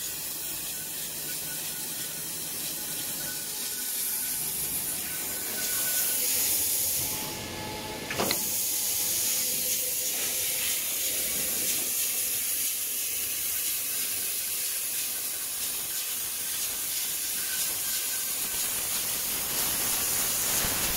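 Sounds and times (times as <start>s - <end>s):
grooving machine hissing: 0.0s - 13.6s, 17.4s - 20.9s.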